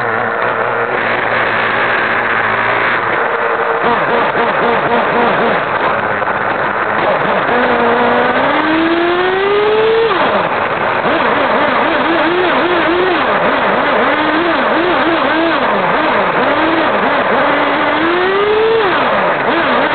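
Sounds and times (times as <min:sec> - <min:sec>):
radio-controlled car motor revving: 0:00.0 - 0:19.9.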